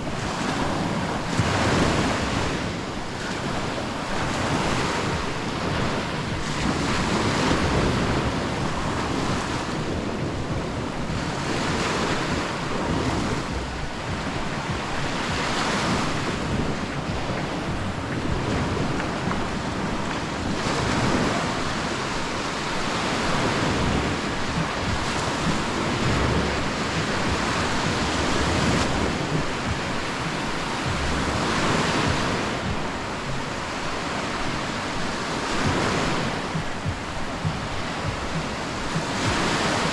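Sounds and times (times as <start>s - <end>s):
sea surf breaking on beach: 0.0s - 39.9s
wind buffeting microphone: 0.0s - 39.9s.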